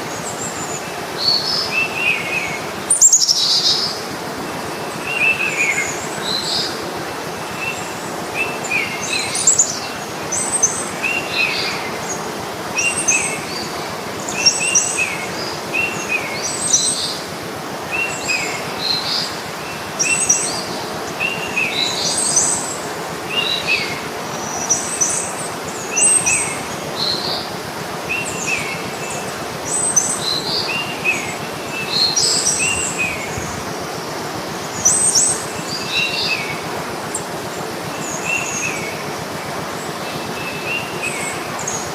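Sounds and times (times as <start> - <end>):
birds chirping: 0.0 - 41.9
steady outdoor hiss: 0.0 - 41.9.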